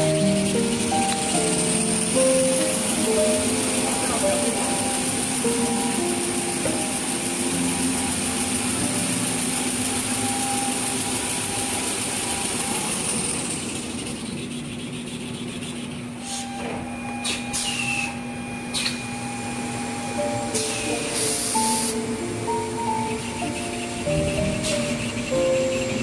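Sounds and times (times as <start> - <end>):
machine running: 0.0 - 26.0.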